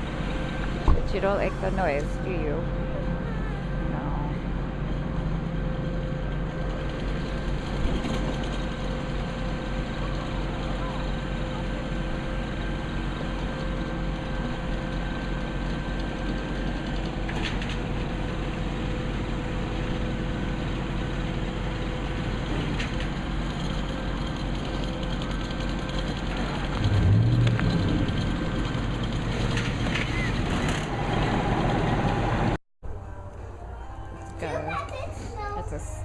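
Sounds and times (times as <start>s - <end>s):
engine-driven machine humming: 0.0s - 34.6s.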